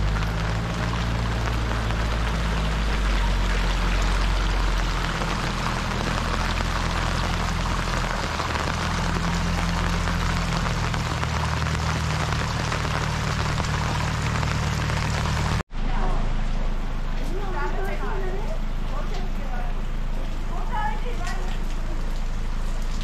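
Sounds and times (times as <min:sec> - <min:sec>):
heavy rain falling: 0:00.0 - 0:23.0
steady low rumble: 0:00.0 - 0:23.0.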